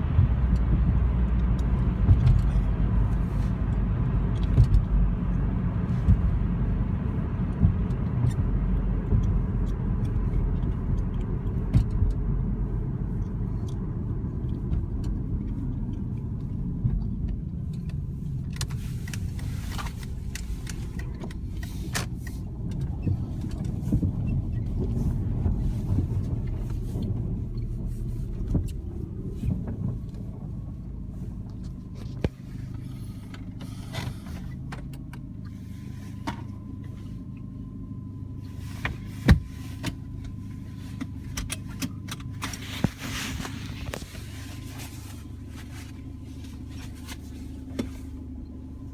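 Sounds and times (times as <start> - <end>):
car engine low rumble: 0.0 - 48.9.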